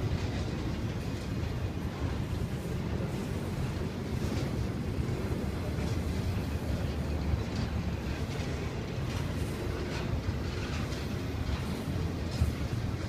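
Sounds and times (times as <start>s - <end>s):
faint clicks and clanks: 0.0s - 13.0s
freight train wheels rumbling: 0.0s - 13.0s.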